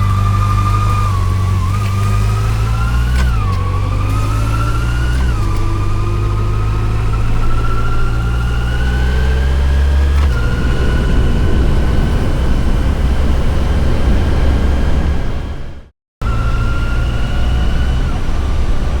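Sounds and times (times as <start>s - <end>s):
motorcycle engine whining: 0.0s - 19.0s
wind and road noise: 0.0s - 19.0s.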